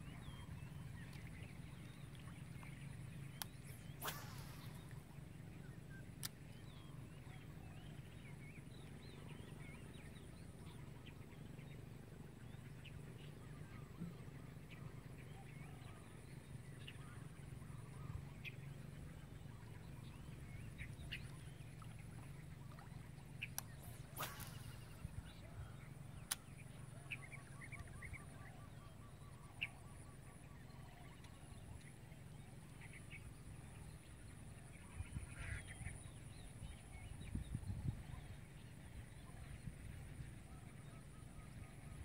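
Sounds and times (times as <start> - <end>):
faint bird chirps and calls: 0.0 - 42.0
low steady hum: 0.0 - 42.0.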